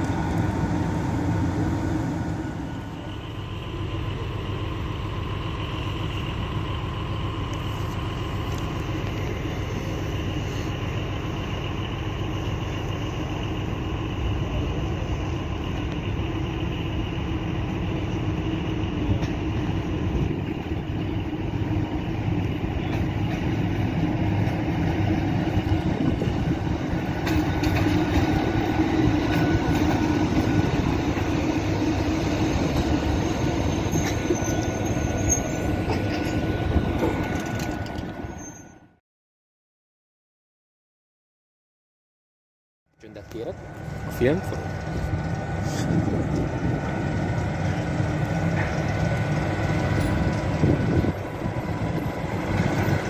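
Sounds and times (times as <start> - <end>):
locomotive motors and blowers humming: 0.0 - 38.4, 43.0 - 53.0
wheel-on-rail noise: 0.0 - 39.0, 43.1 - 53.0.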